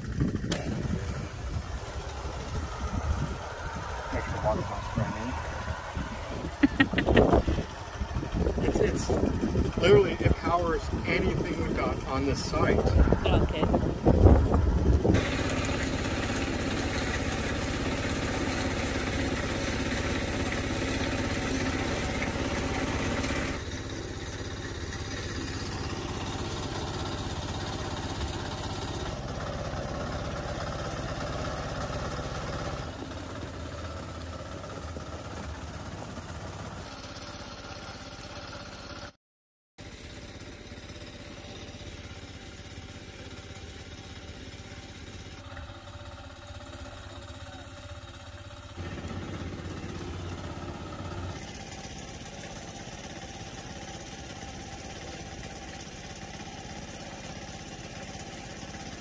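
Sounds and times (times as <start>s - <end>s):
small gasoline engine running: 0.0s - 39.2s, 39.8s - 59.0s.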